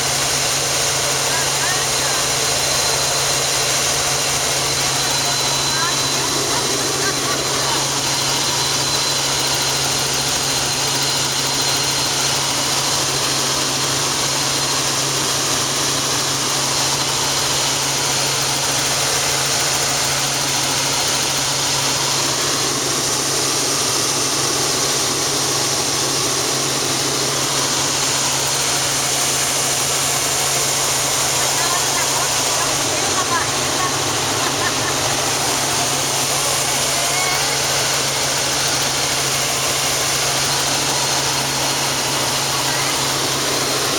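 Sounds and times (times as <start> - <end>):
helicopter engine and rotor: 0.0 - 43.9.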